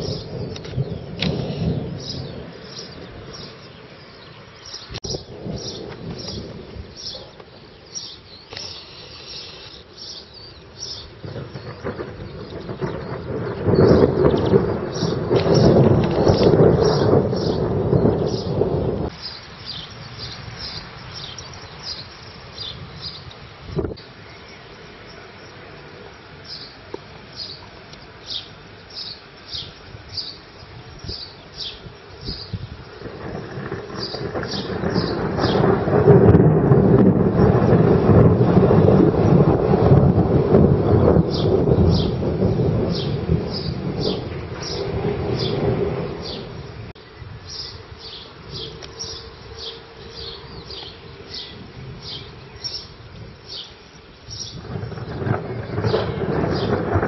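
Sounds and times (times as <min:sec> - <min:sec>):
low thunder rumble: 0:00.0 - 0:08.5, 0:09.7 - 0:24.2, 0:24.8 - 0:57.0
steady background hiss: 0:00.0 - 0:14.0, 0:18.8 - 0:56.3
small bird chirping: 0:00.0 - 0:18.6, 0:19.2 - 0:25.6, 0:26.4 - 0:33.4, 0:42.9 - 0:56.8.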